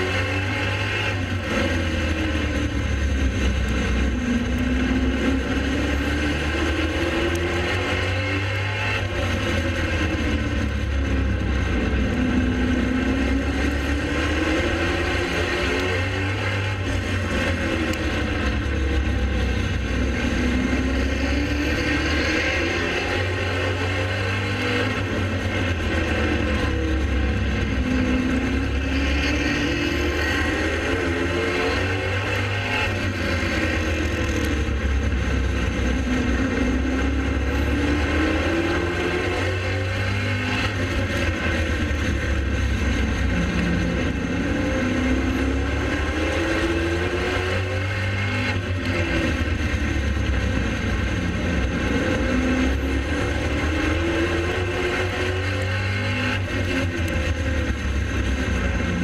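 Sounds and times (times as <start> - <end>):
race car engines running: 0.0 - 59.0.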